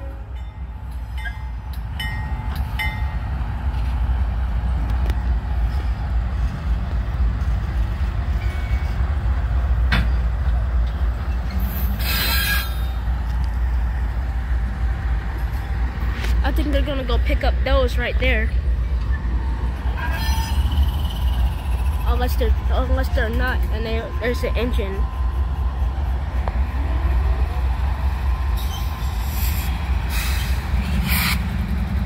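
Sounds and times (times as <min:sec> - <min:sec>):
diesel locomotive engines rumbling: 0:00.0 - 0:32.0.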